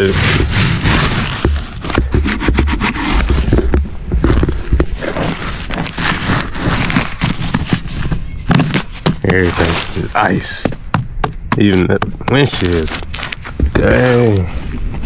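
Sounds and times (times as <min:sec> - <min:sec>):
ice crunching and cracking: 0:00.0 - 0:15.0.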